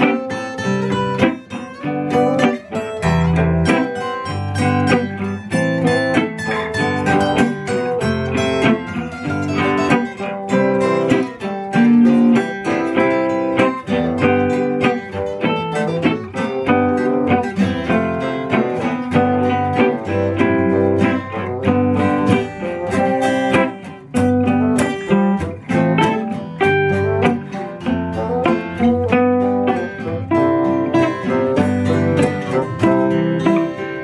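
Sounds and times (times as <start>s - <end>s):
live band with strummed guitar: 0.0s - 34.0s.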